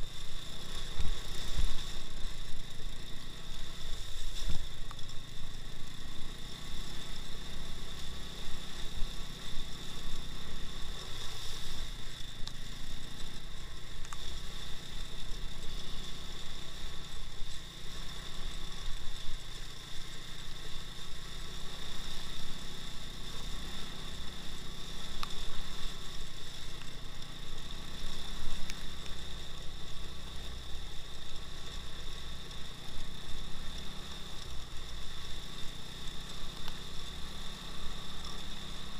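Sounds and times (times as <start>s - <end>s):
high whine: 0.0s - 38.9s
motorcycle engine running: 0.0s - 38.9s.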